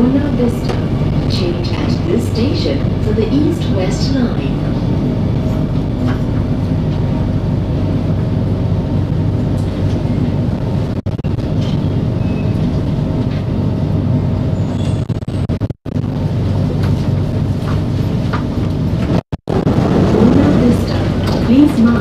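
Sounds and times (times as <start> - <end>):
constant train hum: 0.0 - 22.0
train wheels rumbling on rail: 0.0 - 22.0.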